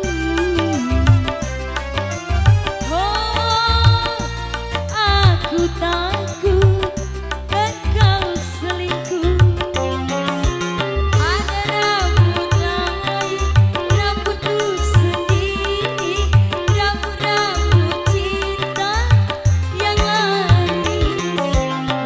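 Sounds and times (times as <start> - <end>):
hand drums steady beat: 0.0 - 22.0
lead melody with bending notes: 0.0 - 22.0.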